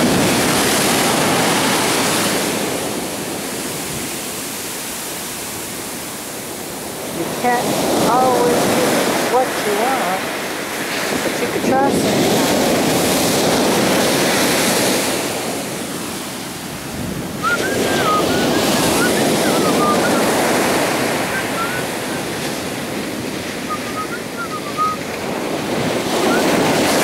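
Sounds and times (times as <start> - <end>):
ocean surf breaking: 0.0 - 27.0.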